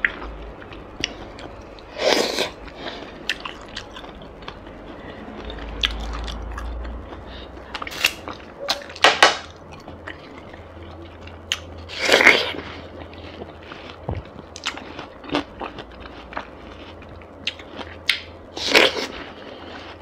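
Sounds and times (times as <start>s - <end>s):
chewing watermelon: 0.0s - 8.5s, 9.6s - 20.0s.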